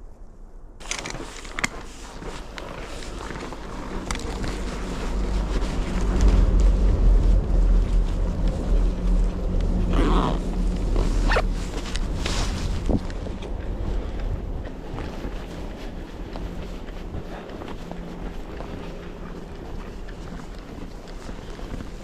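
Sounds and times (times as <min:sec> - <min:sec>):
wind buffeting microphone: 0:01.2 - 0:22.0.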